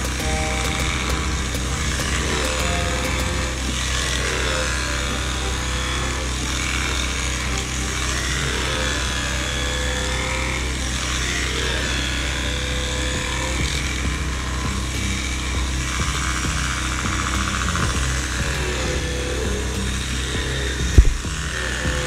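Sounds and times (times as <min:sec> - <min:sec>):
electric shears humming: 0:00.0 - 0:22.0.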